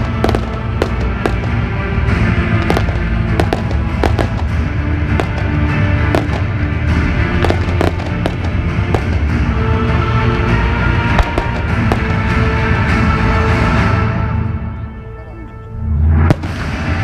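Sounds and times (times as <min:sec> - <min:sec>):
fireworks bangs and crackles: 0:00.0 - 0:14.0, 0:16.2 - 0:17.0
low rumble: 0:00.0 - 0:14.6
music playing: 0:00.0 - 0:17.0.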